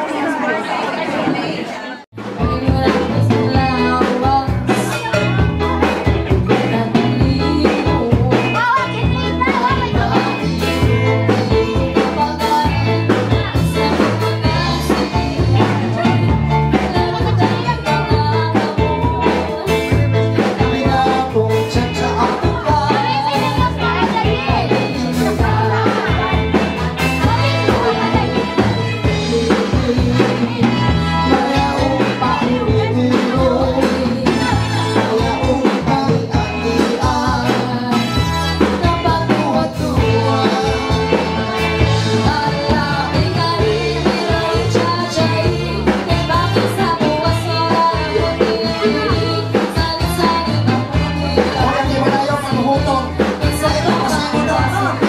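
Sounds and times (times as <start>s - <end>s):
live band playing dance song: 0.0s - 55.0s
bass: 2.1s - 55.0s
person singing: 2.2s - 55.0s
steady drum beat: 2.2s - 55.0s.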